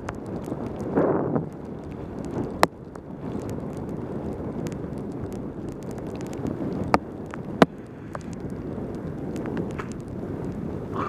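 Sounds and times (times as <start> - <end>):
bike tyres hissing on wet road: 0.0 - 11.0
wind rushing over microphone: 0.0 - 11.0.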